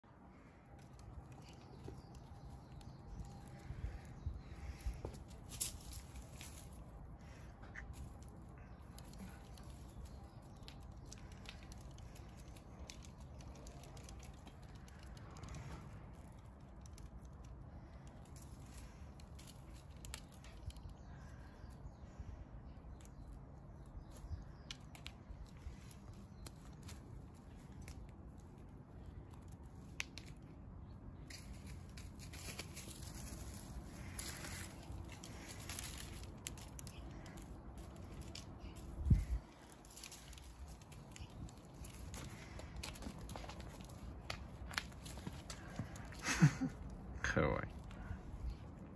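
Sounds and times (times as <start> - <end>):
dry grass rustling and crackling: 0.3 - 47.1.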